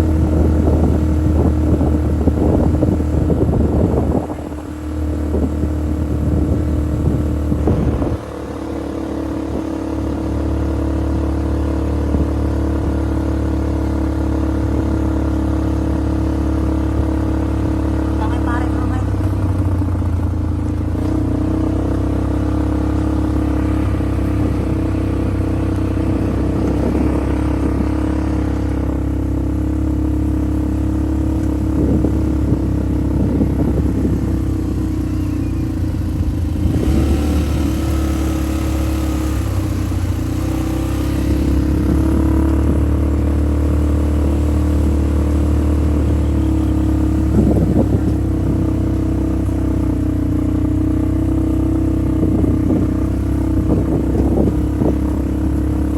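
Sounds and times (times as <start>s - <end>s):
off-road vehicle engine running: 0.0s - 55.9s.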